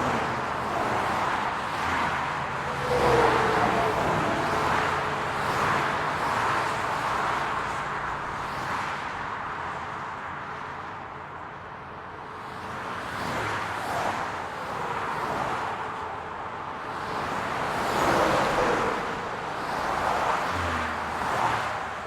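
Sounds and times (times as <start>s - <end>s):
hum of traffic: 0.0s - 22.0s.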